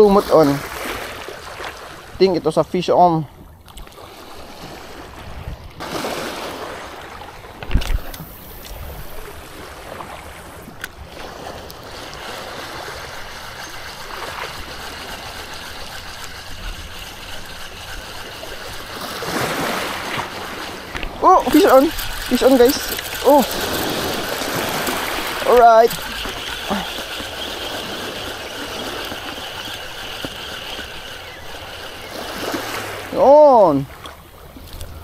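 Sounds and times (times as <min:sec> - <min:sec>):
sea water lapping over rocks: 0:00.0 - 0:35.0.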